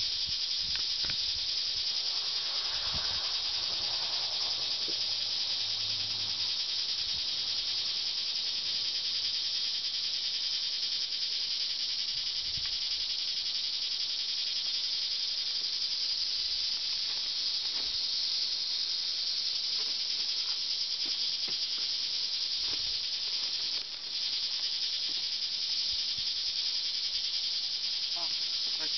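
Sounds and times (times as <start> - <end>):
high-pitched hiss: 0.0 - 28.9.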